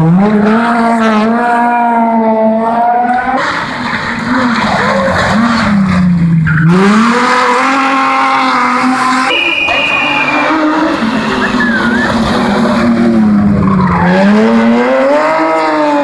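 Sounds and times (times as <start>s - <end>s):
rally car engines revving: 0.0s - 16.0s
tyres skidding: 0.0s - 16.0s.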